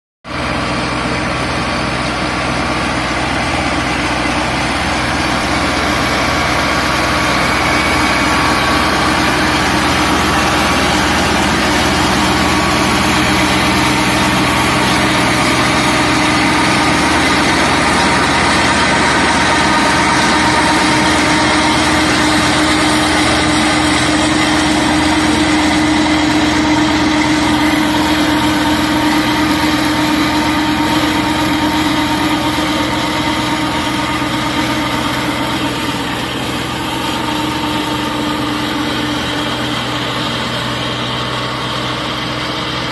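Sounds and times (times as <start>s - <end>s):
tractor engine under load: 0.2s - 42.9s
flail mulcher shredding stubble: 0.3s - 42.9s.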